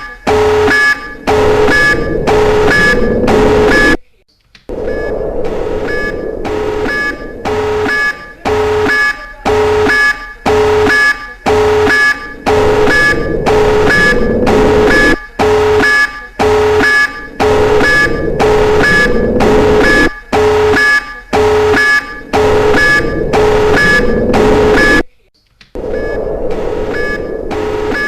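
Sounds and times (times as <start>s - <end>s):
pulsing buzzy alarm: 0.0s - 4.0s, 4.7s - 25.0s, 25.8s - 28.0s.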